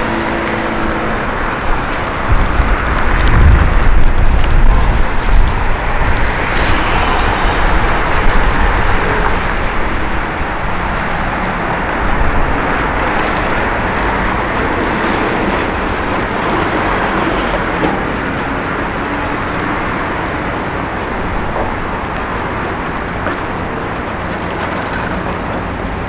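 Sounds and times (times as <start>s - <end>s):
city street noise: 0.0s - 26.0s
wind buffeting microphone: 0.0s - 26.0s.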